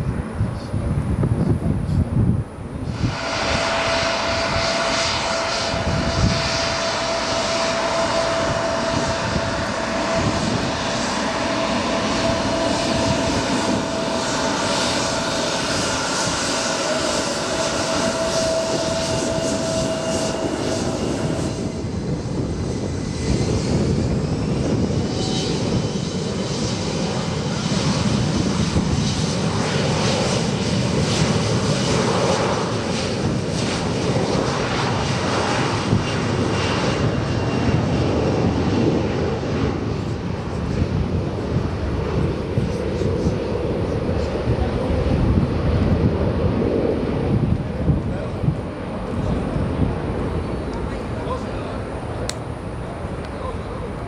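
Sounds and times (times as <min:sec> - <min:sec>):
airplane engines running: 0:00.0 - 0:54.0
engine spooling up whine: 0:02.8 - 0:54.0.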